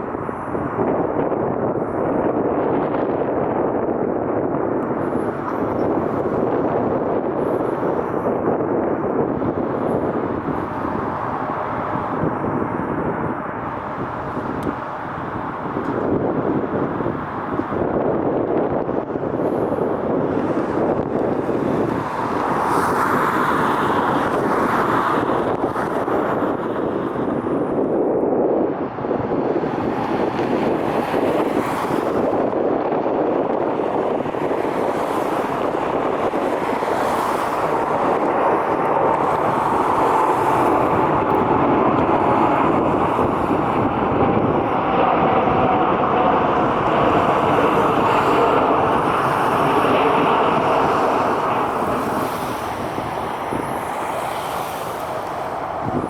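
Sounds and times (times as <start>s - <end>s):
jet airliner engines running: 0.0s - 56.0s
wind rumbling on microphone: 0.0s - 56.0s.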